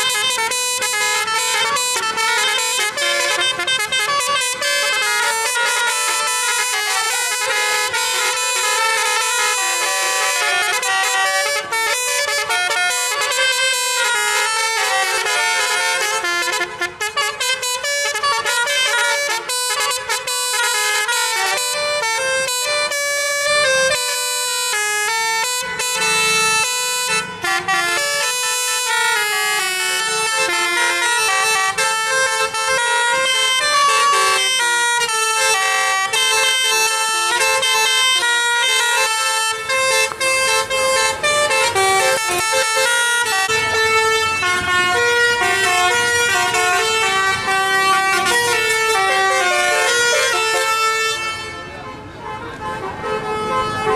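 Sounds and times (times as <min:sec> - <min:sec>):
bus horn playing a tune: 0:00.0 - 0:53.9.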